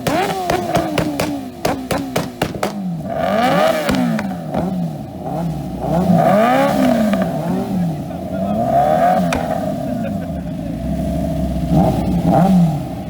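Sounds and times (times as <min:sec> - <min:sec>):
exhaust pops crackling: 0:00.0 - 0:13.0
motorcycle engine revving: 0:00.0 - 0:13.0.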